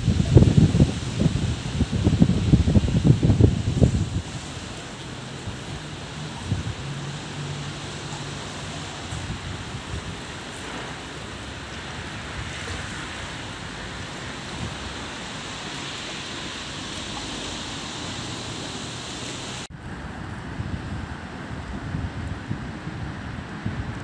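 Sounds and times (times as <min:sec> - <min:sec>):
flooded river rushing: 0:00.0 - 0:24.0.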